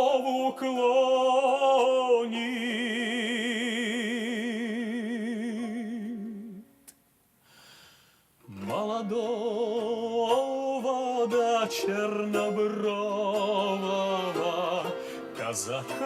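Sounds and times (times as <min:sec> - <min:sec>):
man singing with vibrato: 0:00.0 - 0:06.8, 0:08.4 - 0:16.0.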